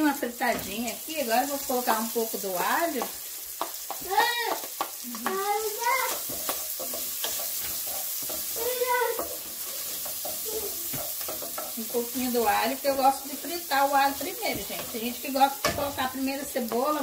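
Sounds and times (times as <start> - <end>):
sausage and garlic sizzling in pan: 0.0 - 17.0
wooden spoon scraping a pan: 0.4 - 17.0.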